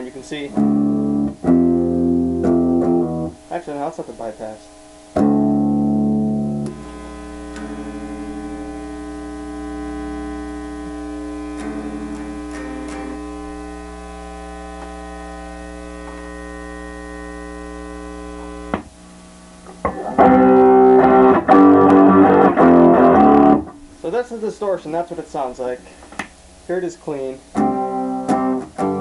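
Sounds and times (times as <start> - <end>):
distorted electric guitar: 0.0 - 24.1, 25.6 - 29.0
mains hum: 0.0 - 29.0.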